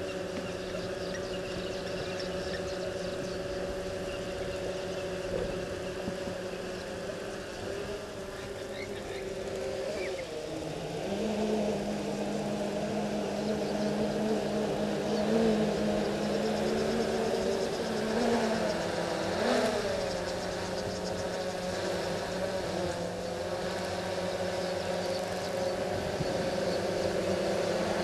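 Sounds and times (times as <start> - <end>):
faint insect buzz: 0.0 - 28.0
vehicle engine running: 0.0 - 28.0.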